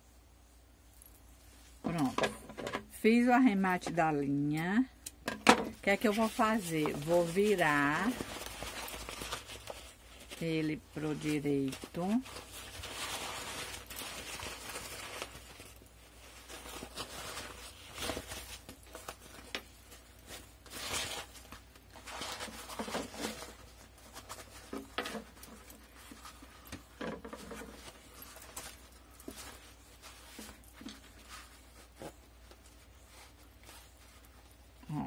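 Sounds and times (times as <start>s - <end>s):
fabric rustling: 5.6s - 35.0s.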